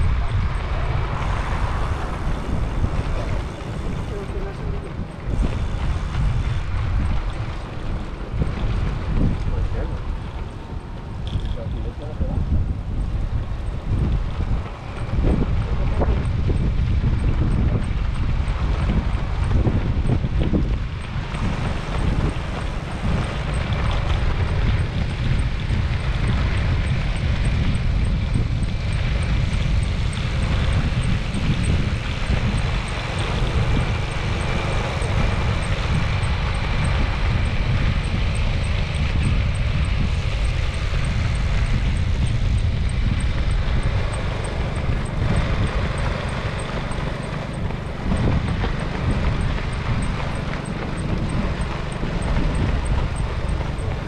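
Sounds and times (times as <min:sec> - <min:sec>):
moving vehicle rumble: 0:00.0 - 0:54.0
wind buffeting microphone: 0:00.0 - 0:54.0.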